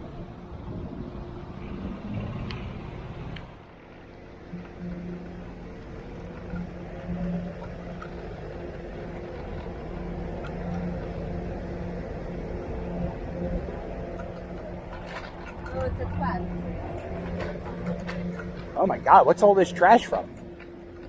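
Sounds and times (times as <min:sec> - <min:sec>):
motor scooter running: 0:00.0 - 0:21.0
road and wind rumble: 0:00.0 - 0:21.0.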